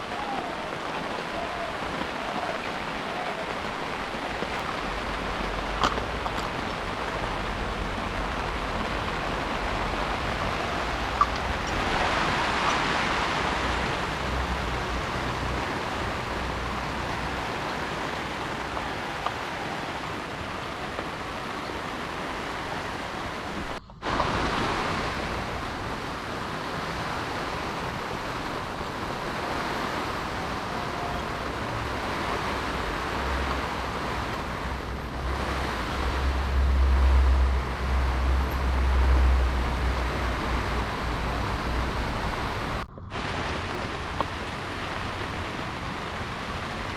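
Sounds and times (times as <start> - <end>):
heavy rain hissing: 0.0 - 46.9.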